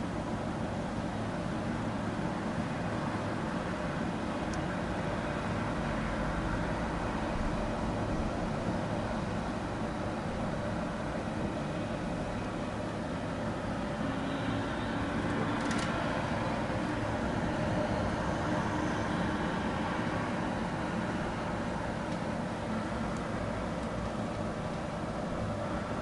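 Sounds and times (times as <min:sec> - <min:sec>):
distant traffic hum: 0:00.0 - 0:26.0.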